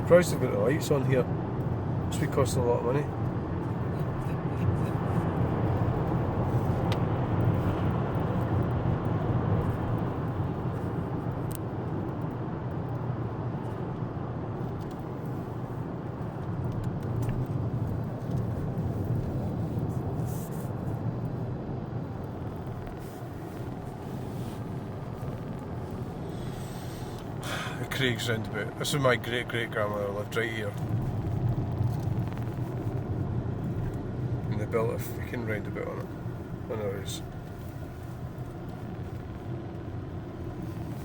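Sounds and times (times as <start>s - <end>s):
car engine and tyre noise: 0.0s - 41.0s.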